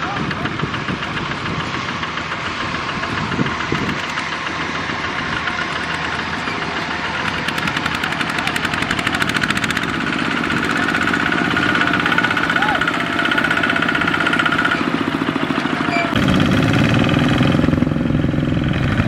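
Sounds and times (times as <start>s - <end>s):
diesel tractor engine running: 0.0s - 19.0s.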